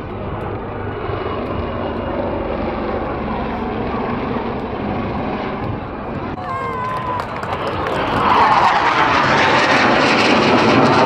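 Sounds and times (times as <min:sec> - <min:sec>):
aircraft engine rush: 0:00.0 - 0:11.0.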